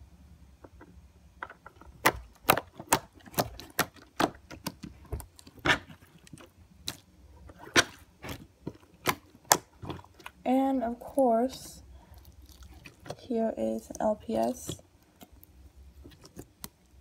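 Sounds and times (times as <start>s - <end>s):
hands squishing slime: 2.0s - 17.0s.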